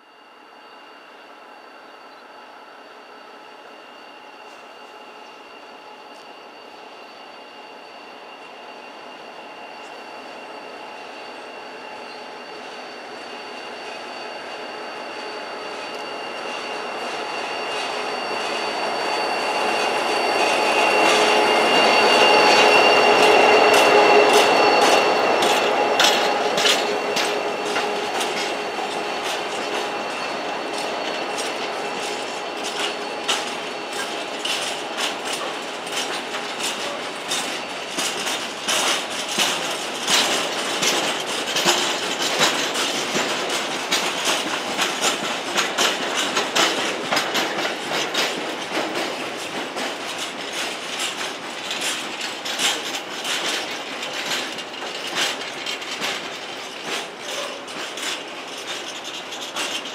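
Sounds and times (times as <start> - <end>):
diesel locomotive engine: 0.0 - 59.9
train wheels clacking on rails: 1.4 - 59.9.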